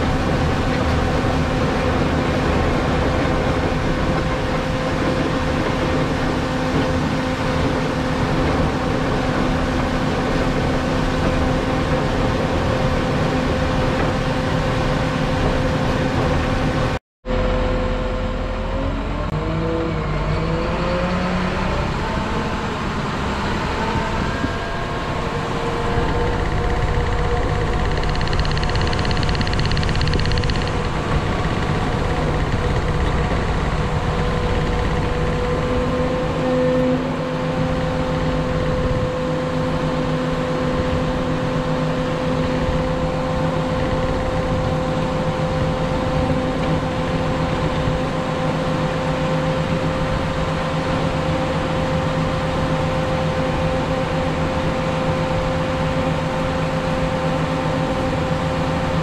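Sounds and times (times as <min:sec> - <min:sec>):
diesel engine droning with whine: 0:00.0 - 0:59.0.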